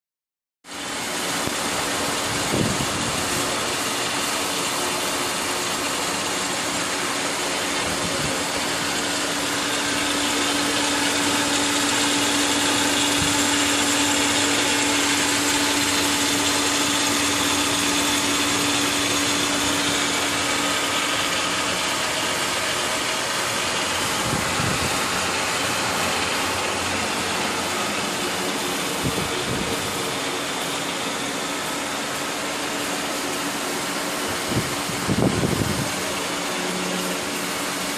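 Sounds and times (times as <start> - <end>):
pump hum: 0.7 - 37.9.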